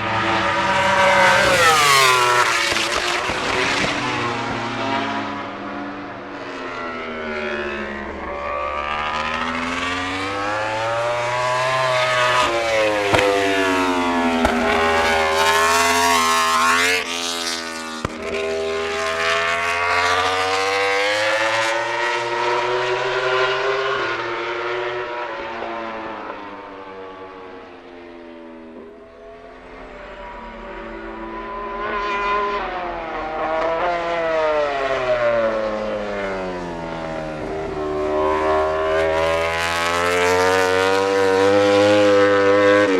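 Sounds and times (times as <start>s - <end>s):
racing motorcycle engine: 0.0s - 42.9s.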